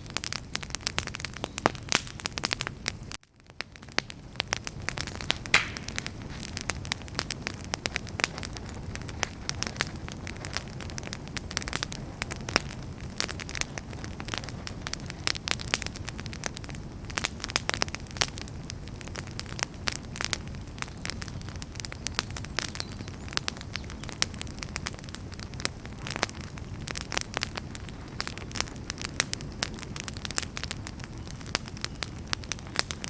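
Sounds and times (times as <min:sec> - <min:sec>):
firewood crackling and popping: 0:00.0 - 0:33.0
low rumble of flames: 0:00.0 - 0:33.0.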